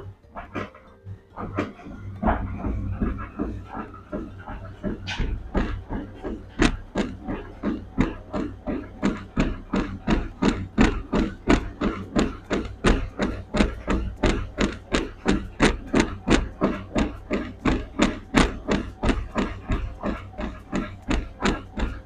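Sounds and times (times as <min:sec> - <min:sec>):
footfalls on treadmill: 0:00.0 - 0:22.0
treadmill hum: 0:00.0 - 0:22.0.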